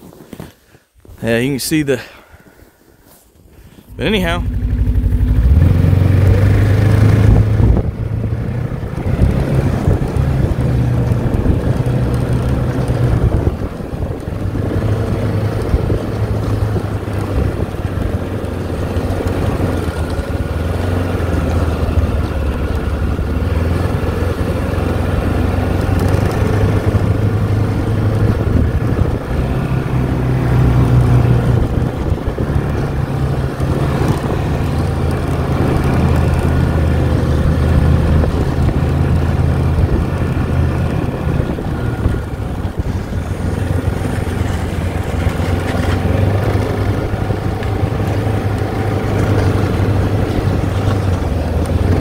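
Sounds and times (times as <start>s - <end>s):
snowmobile engine running: 3.8s - 52.0s.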